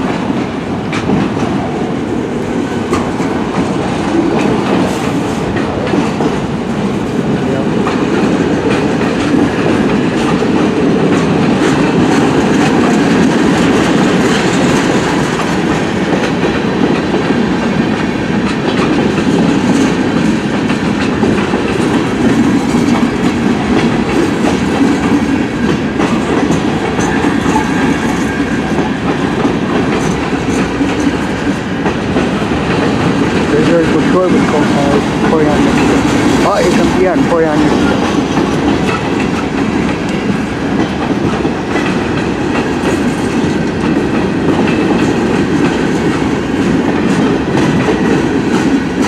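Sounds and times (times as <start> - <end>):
freight train cars rolling: 0.0 - 49.0
wheels clicking over rail joints: 0.0 - 49.0.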